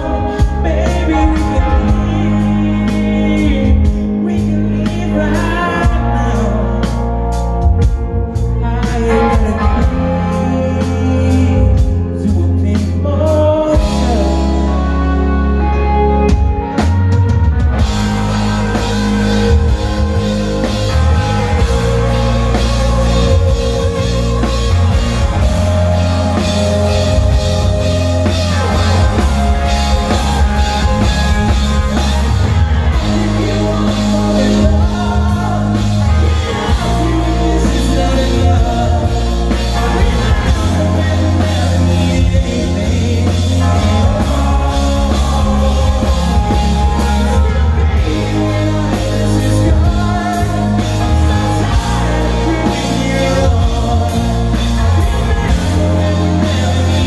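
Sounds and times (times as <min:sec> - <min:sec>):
drum kit: 0:00.0 - 0:15.6, 0:16.2 - 0:57.0
electric guitar: 0:00.0 - 0:57.0
person singing: 0:00.0 - 0:57.0.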